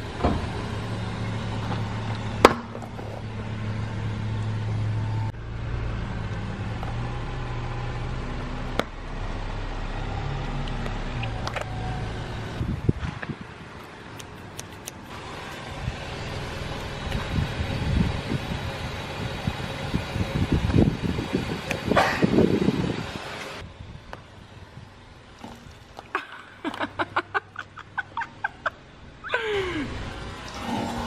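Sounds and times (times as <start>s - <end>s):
car engine humming: 0.0s - 31.0s.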